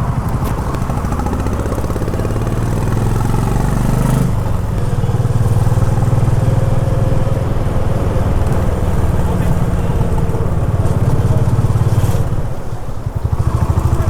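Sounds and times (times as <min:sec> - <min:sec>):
motorcycle engine under throttle: 0:00.0 - 0:14.0.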